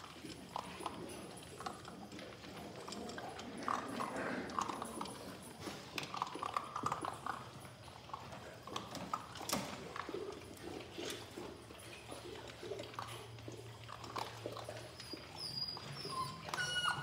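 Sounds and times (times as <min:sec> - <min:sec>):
puppies crunching kibble: 0:00.0 - 0:17.0.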